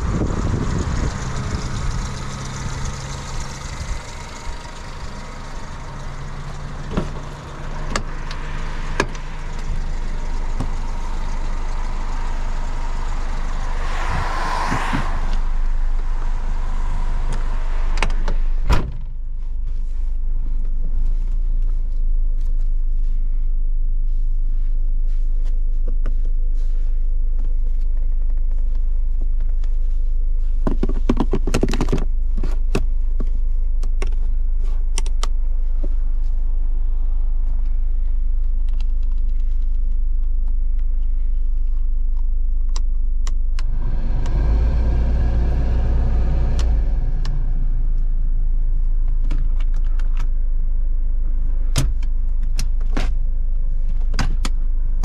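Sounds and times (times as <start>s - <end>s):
car engine idling: 0.0s - 23.4s, 33.0s - 55.0s
car moving off rumble: 0.0s - 55.0s.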